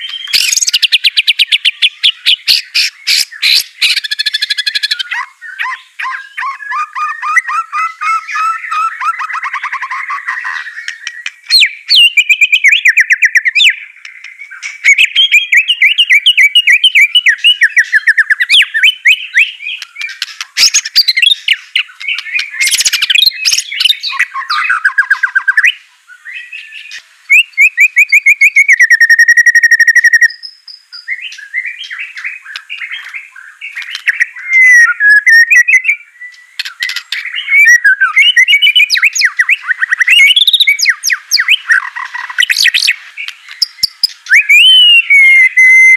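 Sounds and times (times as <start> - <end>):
songbird chattering trills and whistles: 0.0 - 45.9.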